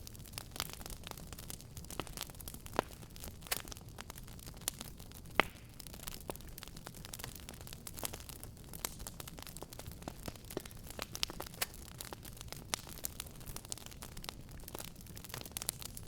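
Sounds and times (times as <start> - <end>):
fire crackling and popping: 0.0 - 16.0
low hiss of burning: 0.0 - 16.0.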